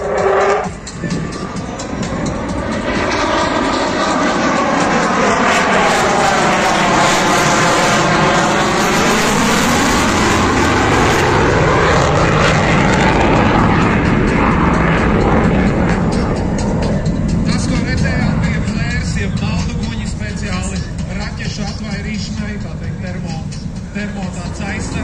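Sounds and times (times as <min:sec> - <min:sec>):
jet aircraft flying past: 0:00.0 - 0:25.0.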